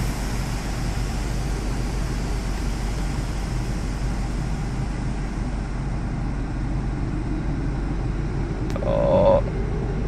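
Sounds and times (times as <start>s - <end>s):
car wash air dryers blowing: 0.0s - 10.0s.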